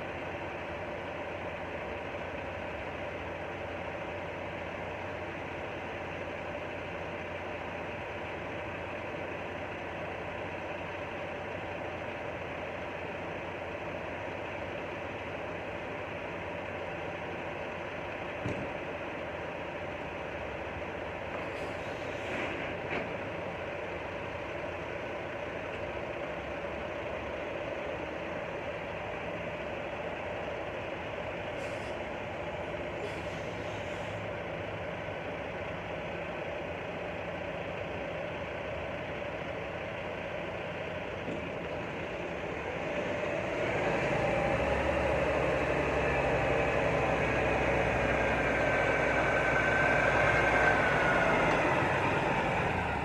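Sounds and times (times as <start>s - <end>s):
diesel truck engine idling: 0.0s - 53.0s
semi-truck driving up: 0.0s - 53.0s.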